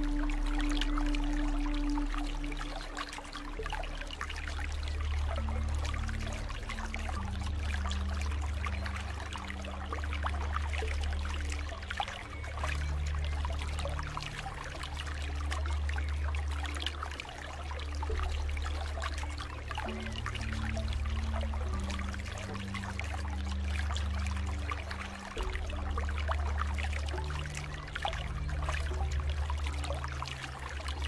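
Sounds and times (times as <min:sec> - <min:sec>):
soft background music: 0:00.0 - 0:31.0
water trickling and splashing: 0:00.0 - 0:31.0.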